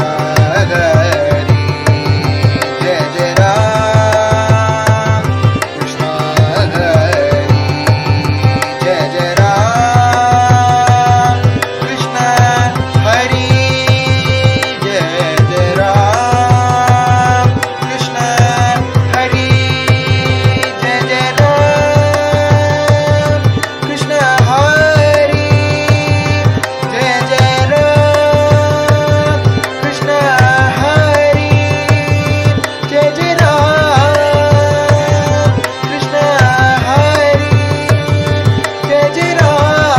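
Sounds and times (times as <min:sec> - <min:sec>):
drum rhythm track: 0:00.0 - 0:39.9
harmonium: 0:00.0 - 0:39.9
person singing ornamented melody: 0:00.0 - 0:39.9.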